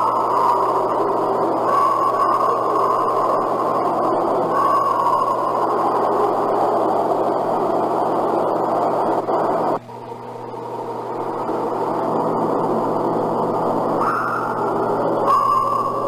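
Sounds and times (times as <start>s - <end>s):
tape hiss: 0.0s - 16.0s.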